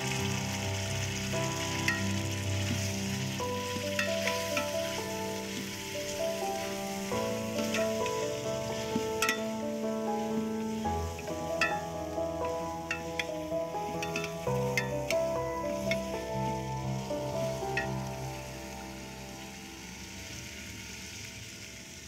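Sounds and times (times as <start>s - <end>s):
background music: 0.0s - 21.2s
food sizzling in oil: 0.0s - 22.0s.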